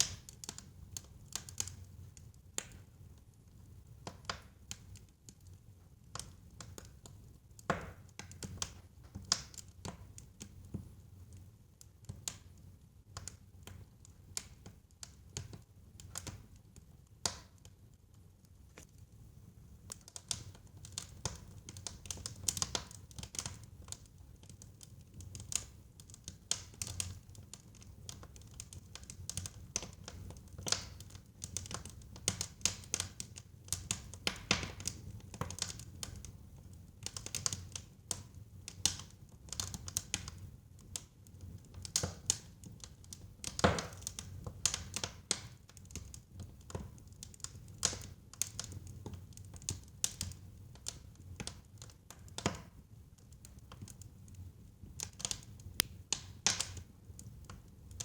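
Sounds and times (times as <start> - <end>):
burning wood crackling and popping: 0.0 - 58.0.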